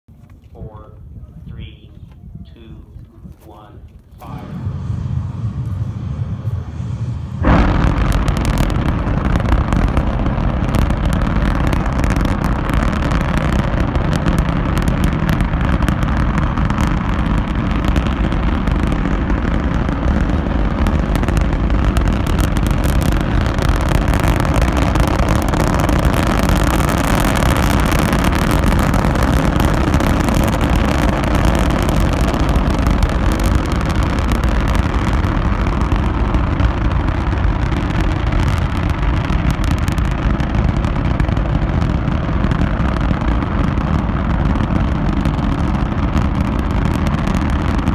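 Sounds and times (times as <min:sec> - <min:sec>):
rocket motor deep rumble: 0:00.3 - 0:47.9.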